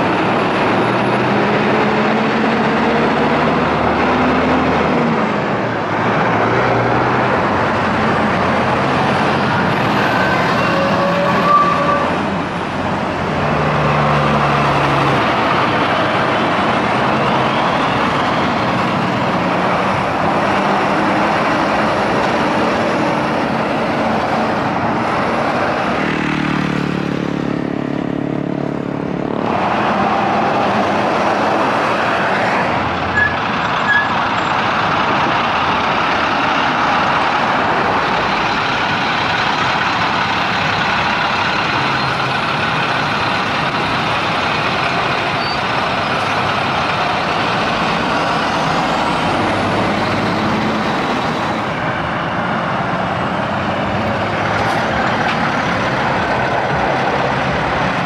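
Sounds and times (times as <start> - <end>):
heavy trucks passing: 0.0 - 58.0.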